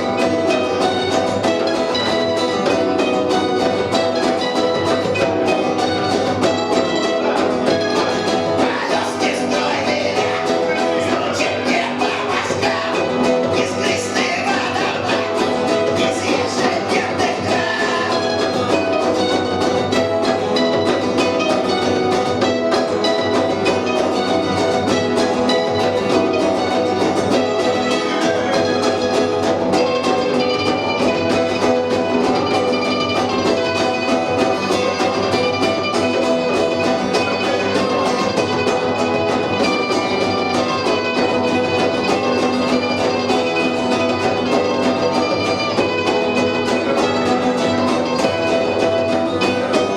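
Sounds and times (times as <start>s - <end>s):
punk rock band playing live: 0.0s - 49.9s.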